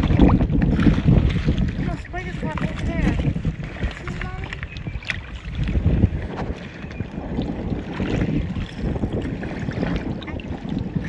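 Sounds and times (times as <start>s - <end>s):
water sloshing in shallows: 0.0s - 11.0s
wind buffeting microphone: 0.0s - 11.0s.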